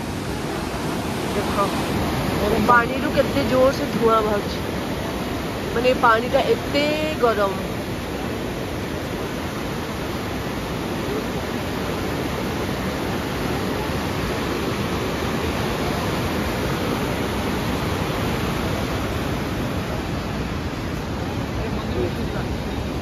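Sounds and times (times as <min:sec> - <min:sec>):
river rushing through rapids: 0:00.0 - 0:23.0.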